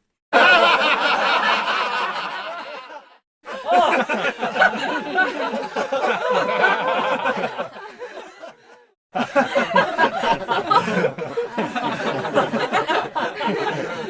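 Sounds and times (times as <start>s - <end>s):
people laughing together: 0.3s - 14.0s
recorded laughter: 0.4s - 14.0s.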